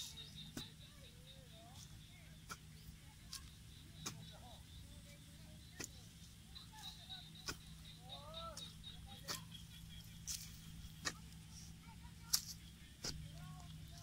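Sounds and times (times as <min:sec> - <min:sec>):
spade striking packed soil: 0:00.0 - 0:00.8, 0:01.8 - 0:14.0.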